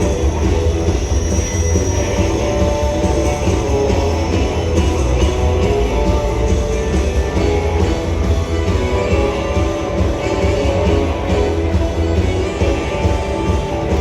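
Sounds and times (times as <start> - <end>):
rock band with guitar: 0.0 - 14.0.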